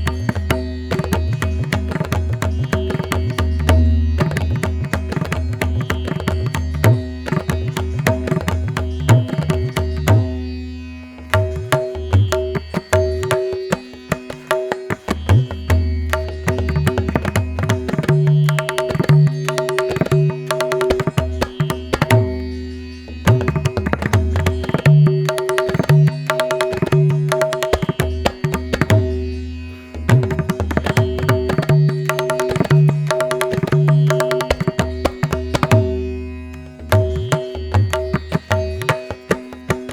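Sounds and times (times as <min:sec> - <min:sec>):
percussion beat: 0:00.0 - 0:10.4, 0:11.3 - 0:22.4, 0:23.3 - 0:29.2, 0:30.1 - 0:36.1, 0:36.8 - 0:39.9.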